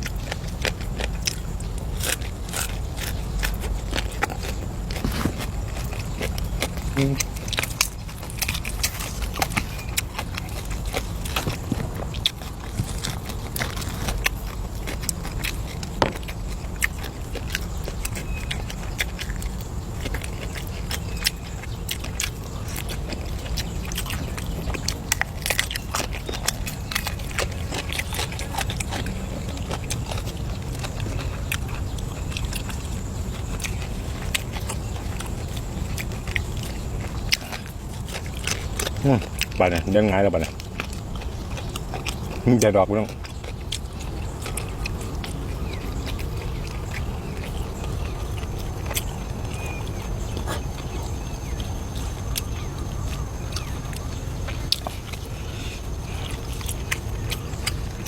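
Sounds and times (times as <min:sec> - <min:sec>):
biting and chewing: 0:00.0 - 0:58.0
steady low rumble: 0:00.0 - 0:58.0.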